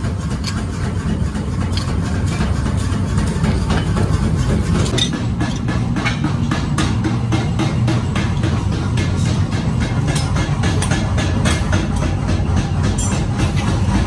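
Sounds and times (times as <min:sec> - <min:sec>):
low engine-like drone: 0:00.0 - 0:14.0.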